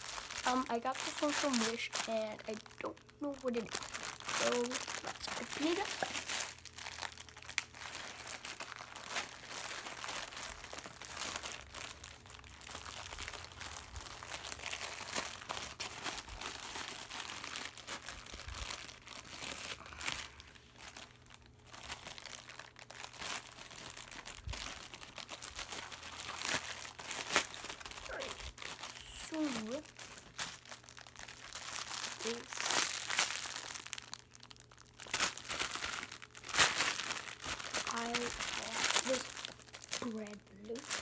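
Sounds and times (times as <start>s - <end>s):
packaging crinkling and rustling: 0.0s - 41.0s.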